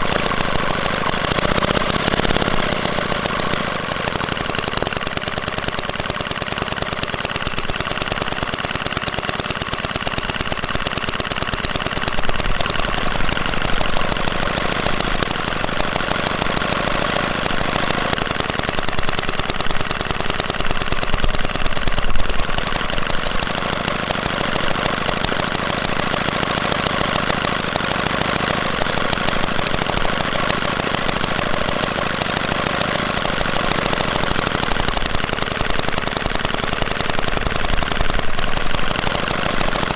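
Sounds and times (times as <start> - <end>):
small model petrol engine running: 0.0 - 39.9.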